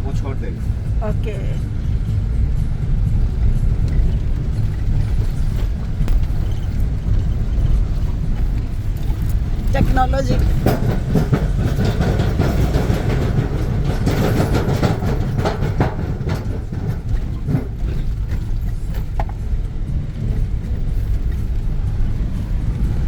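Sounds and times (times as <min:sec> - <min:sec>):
knocks and rattles: 0:00.0 - 0:23.0
low mechanical rumble: 0:00.0 - 0:23.0.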